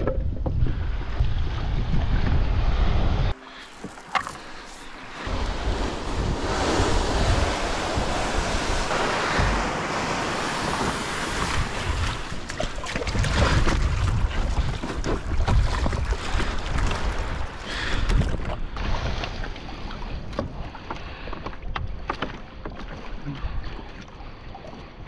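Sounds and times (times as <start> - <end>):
wind buffeting microphone: 0.0 - 3.4, 4.6 - 22.1
waves washing: 0.9 - 25.0.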